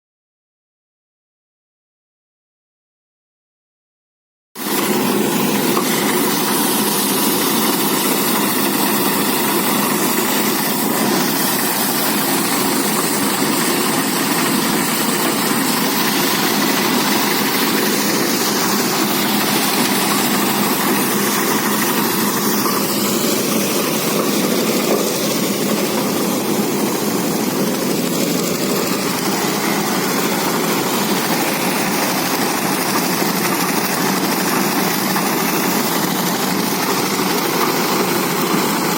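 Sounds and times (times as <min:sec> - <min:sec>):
threshing machine running: 0:04.6 - 0:38.9.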